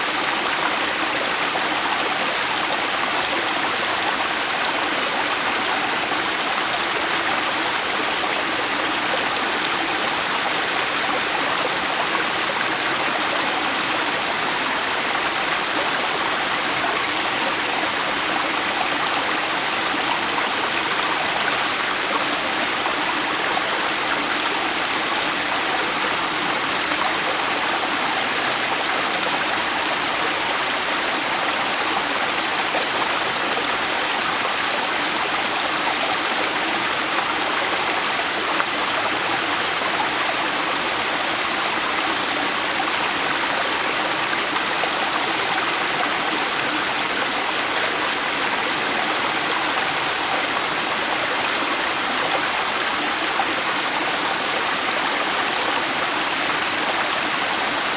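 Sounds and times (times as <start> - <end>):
river water flowing over rocks: 0.0 - 57.9.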